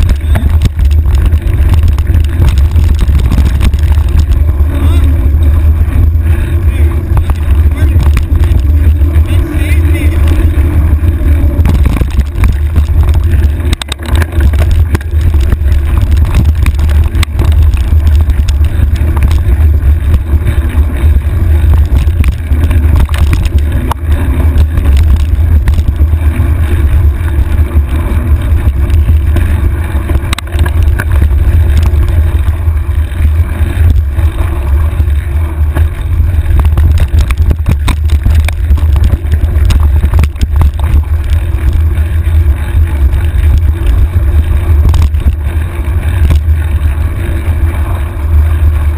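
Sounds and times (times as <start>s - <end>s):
bike rattling over ground: 0.0s - 48.9s
wind rumble on microphone: 0.0s - 48.9s.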